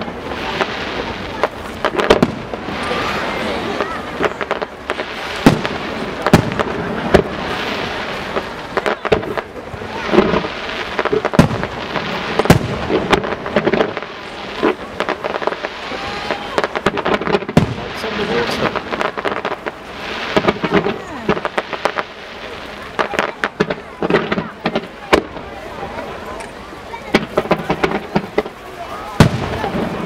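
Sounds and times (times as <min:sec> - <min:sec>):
fireworks hissing and crackling: 0:00.0 - 0:30.0.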